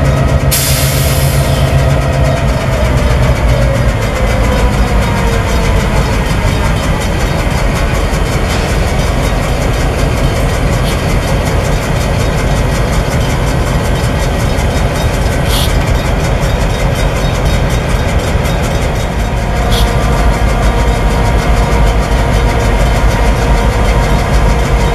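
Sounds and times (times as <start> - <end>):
diesel locomotive engines chugging: 0.0 - 24.9.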